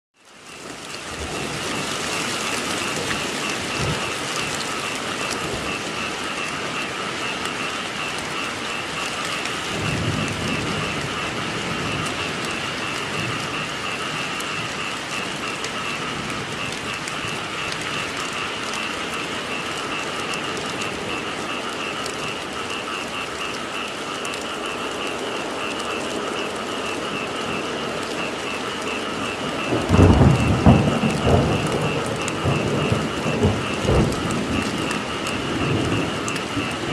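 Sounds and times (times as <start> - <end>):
steady rain falling: 0.2 - 36.9
thunder rumbling: 1.0 - 23.5, 25.4 - 36.9.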